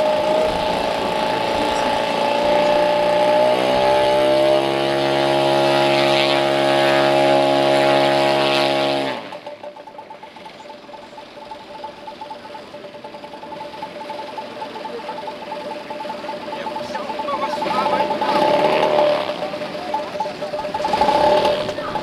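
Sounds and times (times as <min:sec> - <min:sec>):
model airplane engine running: 0:00.0 - 0:22.0.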